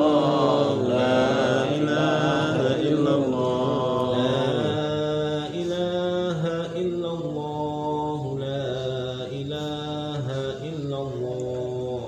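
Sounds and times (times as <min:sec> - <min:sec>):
men chanting together: 0:00.0 - 0:12.0.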